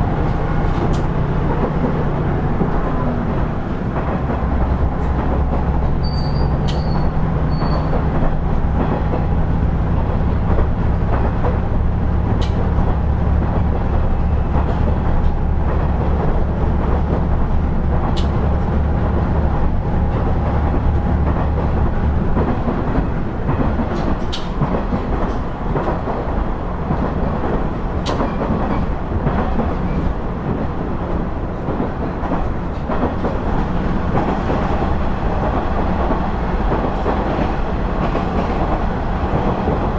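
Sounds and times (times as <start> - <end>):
rail joint clicks: 0.0 - 39.9.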